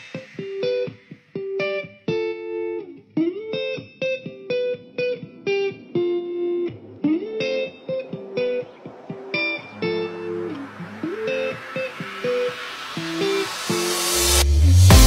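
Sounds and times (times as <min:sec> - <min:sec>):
plucked guitar melody: 0:00.2 - 0:14.0.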